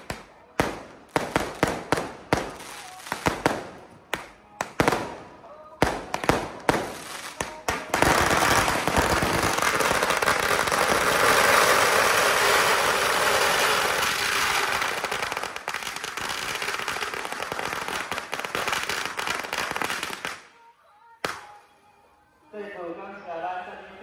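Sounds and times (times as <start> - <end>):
firecrackers crackling: 0.0 - 21.6.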